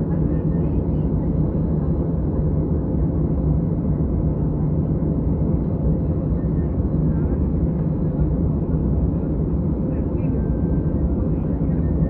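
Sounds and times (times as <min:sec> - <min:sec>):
low aircraft cabin rumble: 0:00.0 - 0:12.0.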